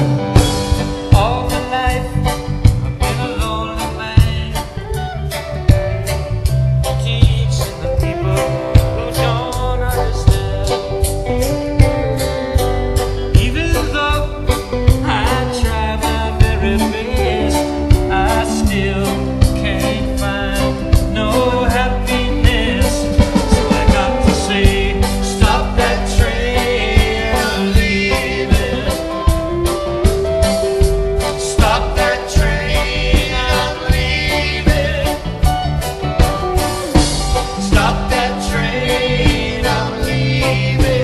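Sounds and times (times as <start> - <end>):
live reggae band playing: 0.0 - 41.0
pitch-bending lead guitar line: 0.0 - 41.0.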